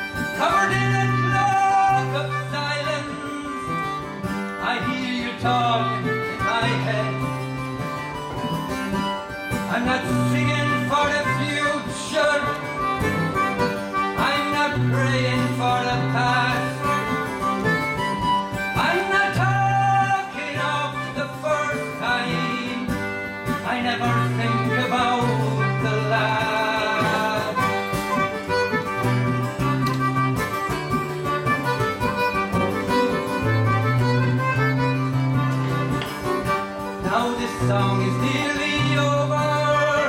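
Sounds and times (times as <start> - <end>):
acoustic guitar strumming: 0.0 - 40.0
concertina melody: 0.0 - 40.0.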